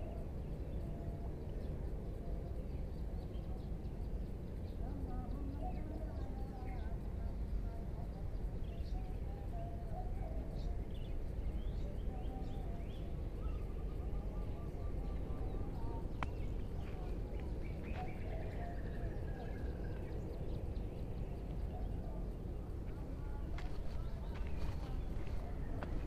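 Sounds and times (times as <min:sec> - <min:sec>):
birds chirping: 0:00.0 - 0:26.0
low outdoor rumble: 0:00.0 - 0:26.0.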